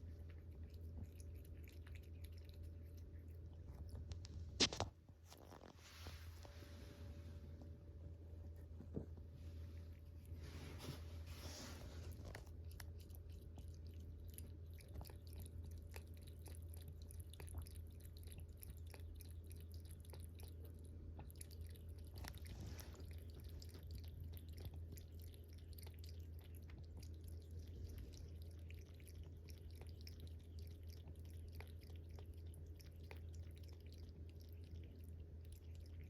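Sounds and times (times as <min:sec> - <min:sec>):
cat lapping water: 0:00.0 - 0:04.5, 0:09.4 - 0:36.0
steady low hum: 0:00.0 - 0:36.0.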